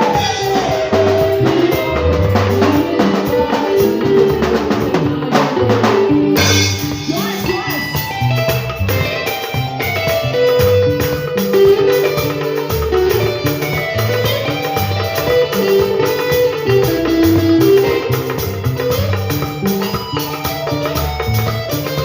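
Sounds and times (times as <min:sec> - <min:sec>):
electronic keyboard latin accompaniment: 0:00.0 - 0:22.0.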